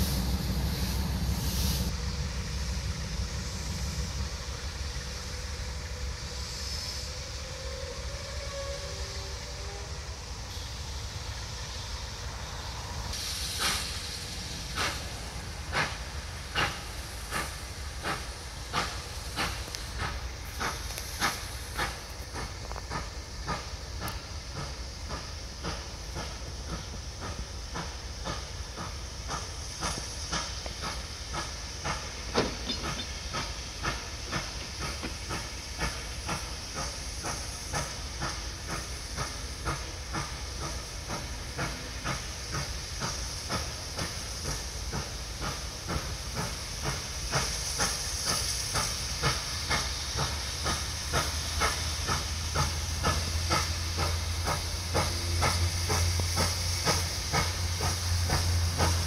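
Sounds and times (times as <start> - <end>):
steam hissing: 0.0 - 59.0
steam locomotive exhaust beats: 0.0 - 59.0.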